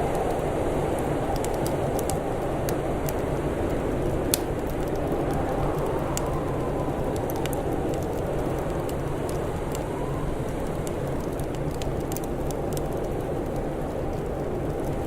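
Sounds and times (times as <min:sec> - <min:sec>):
low rushing wind or rain: 0:00.0 - 0:15.0
wood fire crackling: 0:00.0 - 0:15.0.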